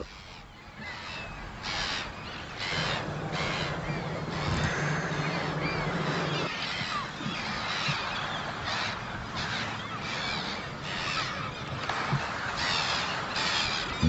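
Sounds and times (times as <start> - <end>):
gulls calling: 0.0 - 14.0
waterside background: 0.0 - 14.0.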